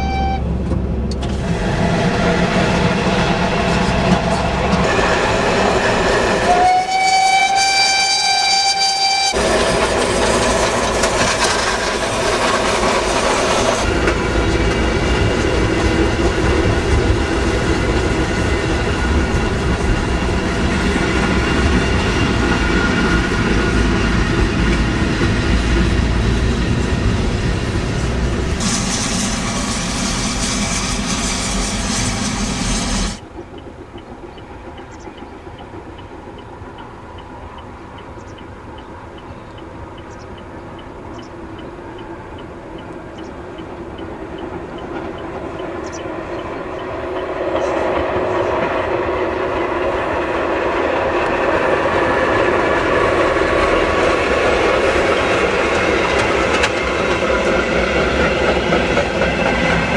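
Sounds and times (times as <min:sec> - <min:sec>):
loud steady rail noise: 0:00.0 - 0:59.9
steam train rolling past: 0:00.0 - 0:59.9.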